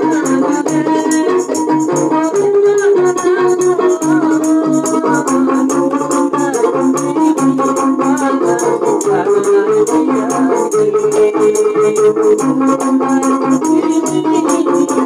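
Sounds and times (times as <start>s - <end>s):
plucked-string melody: 0.0s - 15.0s
shaker rattle: 0.0s - 15.0s.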